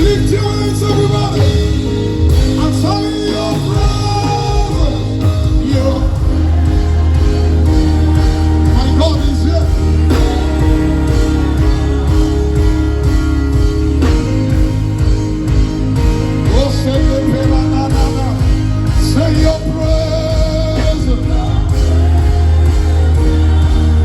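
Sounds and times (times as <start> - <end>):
band playing worship music: 0.0 - 24.0.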